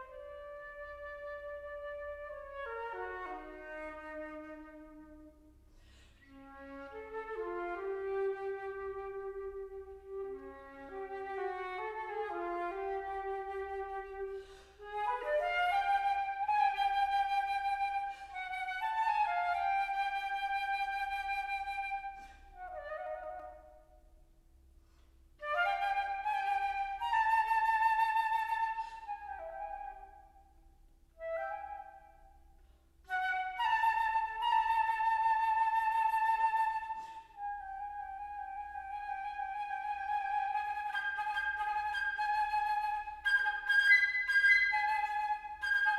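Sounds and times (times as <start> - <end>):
solo flute melody: 0.0 - 24.2, 25.4 - 45.9.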